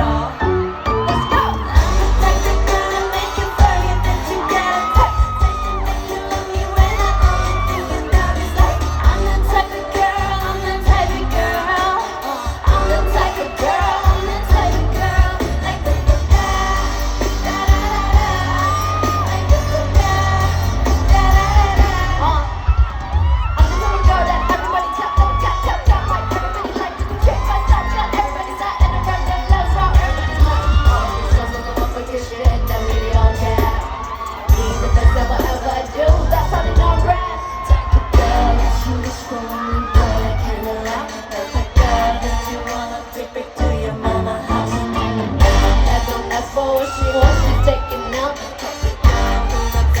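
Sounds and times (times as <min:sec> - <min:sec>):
pop song over sound system: 0:00.0 - 0:50.0.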